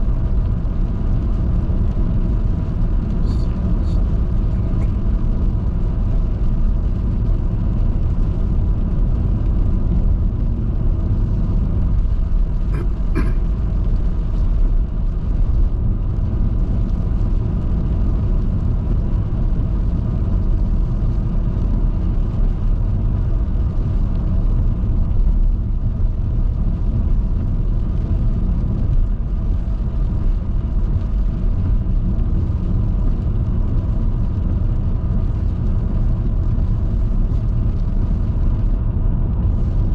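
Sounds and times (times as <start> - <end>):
vehicle driving on wet road: 0.0 - 39.9.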